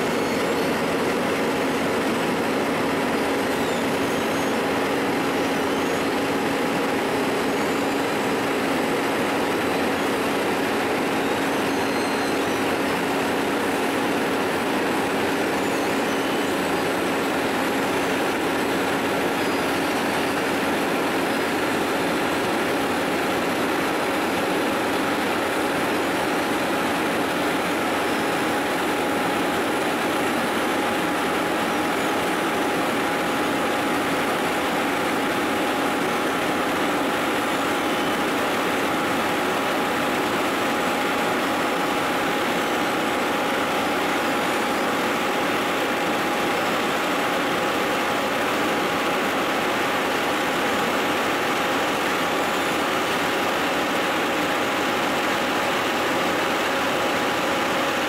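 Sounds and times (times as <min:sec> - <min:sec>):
heavy diesel machinery running: 0:00.0 - 0:58.0
steady mechanical whine: 0:00.0 - 0:58.0.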